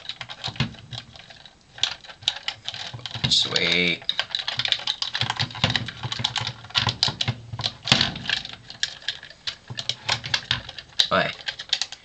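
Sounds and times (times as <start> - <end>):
plastic toy clicking and rattling: 0.0 - 12.0.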